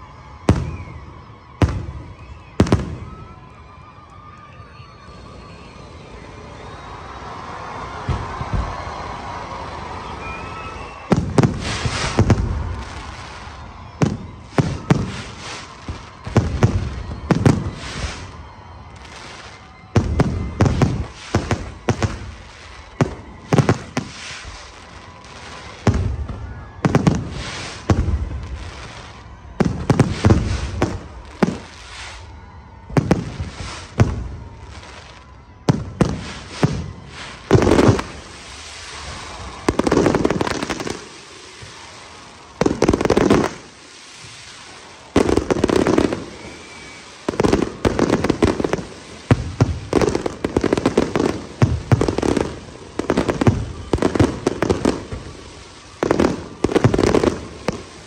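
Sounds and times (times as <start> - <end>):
fireworks bursting with bangs: 0.0 - 5.9, 6.8 - 58.0.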